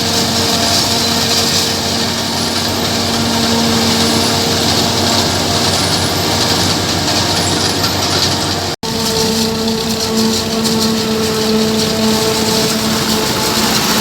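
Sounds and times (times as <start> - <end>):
forage harvester running: 0.0 - 14.0.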